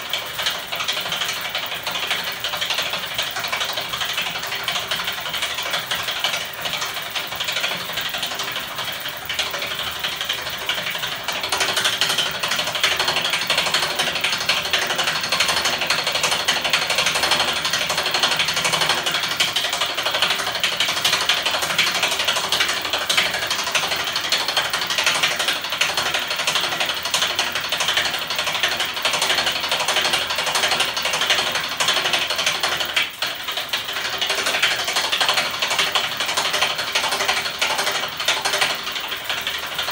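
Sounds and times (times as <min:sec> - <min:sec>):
engine rapid clicking clatter: 0:00.0 - 0:39.9.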